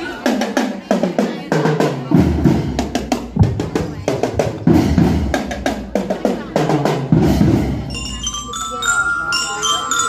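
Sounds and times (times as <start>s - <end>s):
marching drums: 0.0s - 8.3s.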